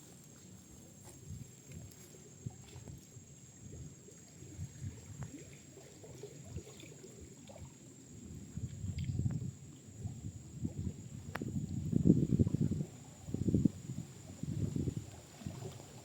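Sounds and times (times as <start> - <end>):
forest stream trickling: 0.0 - 16.0.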